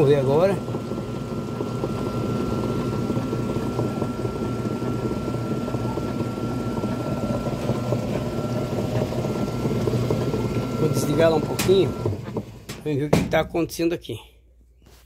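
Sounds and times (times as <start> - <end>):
washing machine scraping rumble: 0.0 - 13.8.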